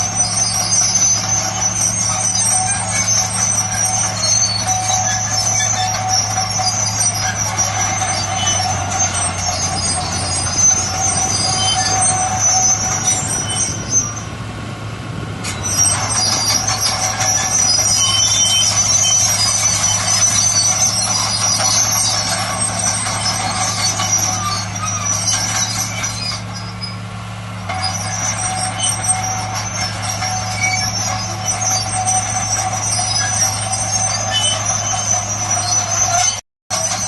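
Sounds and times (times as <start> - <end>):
bulldozer engine hum: 0.0 - 37.0
bulldozer tracks squealing: 0.0 - 37.0.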